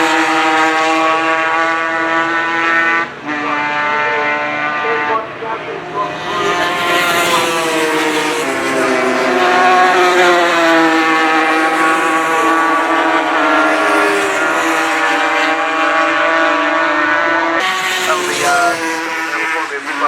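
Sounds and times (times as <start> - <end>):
racing motorcycles passing at high revs: 0.0 - 20.0.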